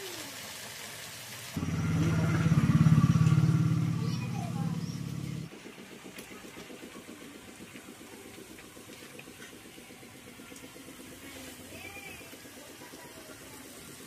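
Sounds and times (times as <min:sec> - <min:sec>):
faint engine idling: 0:01.6 - 0:14.0.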